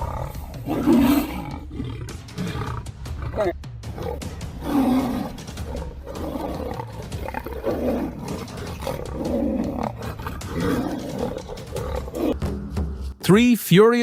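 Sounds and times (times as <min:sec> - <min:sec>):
tiger roaring: 0:00.0 - 0:13.2.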